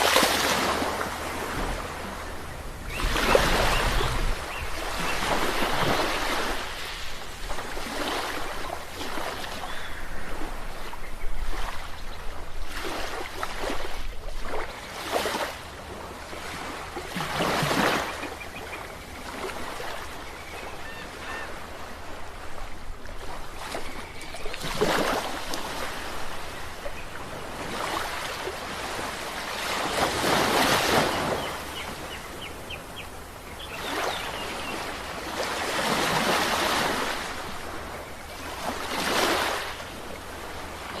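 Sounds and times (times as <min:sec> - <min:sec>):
sea waves breaking on shore: 0:00.0 - 0:41.0.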